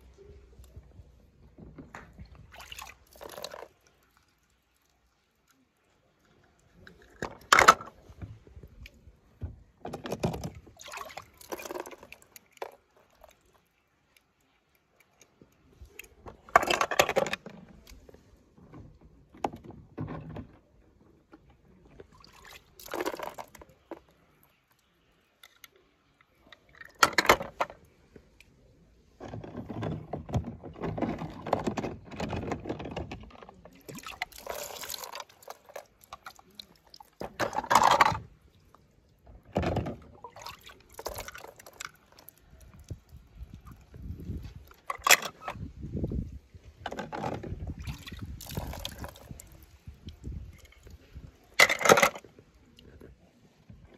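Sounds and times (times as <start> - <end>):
water splashing and sloshing: 0.0 - 53.9.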